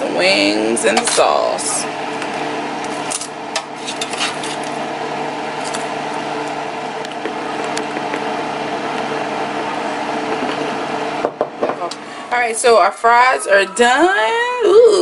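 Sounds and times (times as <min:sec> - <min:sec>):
air fryer fan humming: 0:00.0 - 0:15.0.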